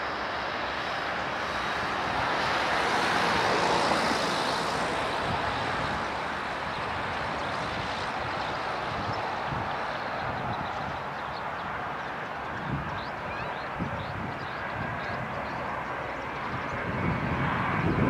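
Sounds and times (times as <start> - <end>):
jet airplane roar: 0.0 - 18.0.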